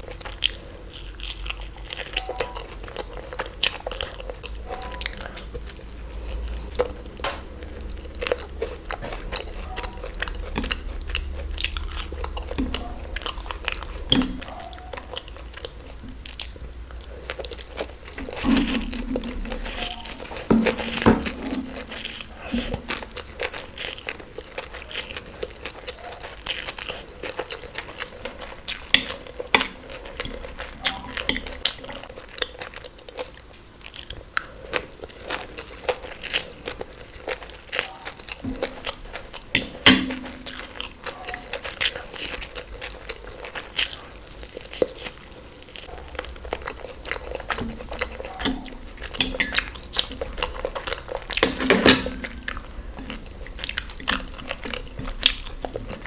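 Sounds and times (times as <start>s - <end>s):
chewing and biting: 0.0s - 56.0s.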